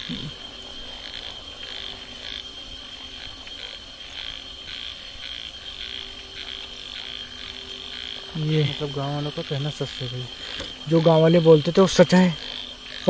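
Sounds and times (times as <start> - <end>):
frogs croaking: 0.0 - 13.0
steady high-pitched whine: 0.0 - 13.0.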